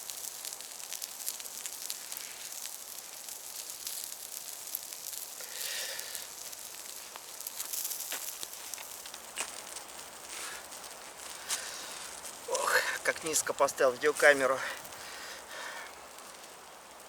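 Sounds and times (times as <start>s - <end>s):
campfire crackling and popping: 0.0s - 17.0s
meat sizzling: 0.0s - 17.0s
rustle: 0.0s - 17.0s.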